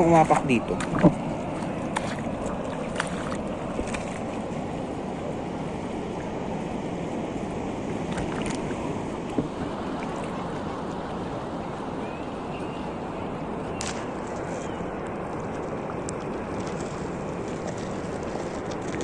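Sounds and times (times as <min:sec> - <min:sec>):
shallow seawater washing: 0:00.0 - 0:19.0
wind on microphone: 0:00.0 - 0:19.0.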